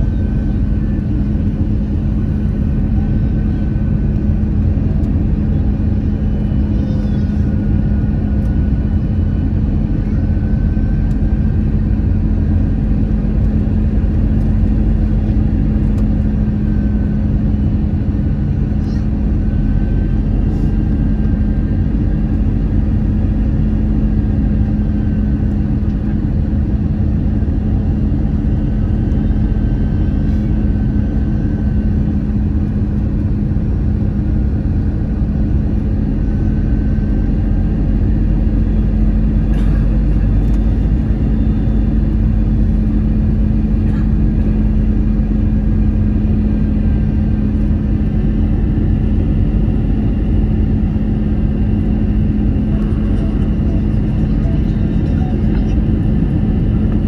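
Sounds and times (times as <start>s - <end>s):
constant low hum: 0.0s - 57.0s
jet engines and rushing air: 0.0s - 57.0s.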